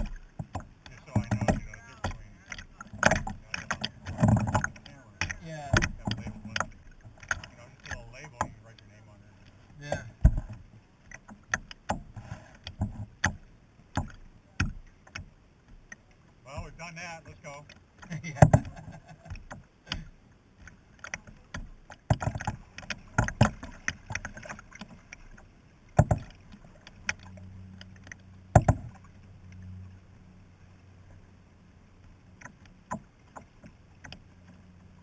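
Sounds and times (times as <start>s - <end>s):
paddle knocking against kayak: 0.0s - 9.0s, 9.7s - 20.2s, 21.0s - 27.3s, 28.4s - 29.1s, 32.4s - 34.6s
paddle strokes through water: 0.0s - 35.0s.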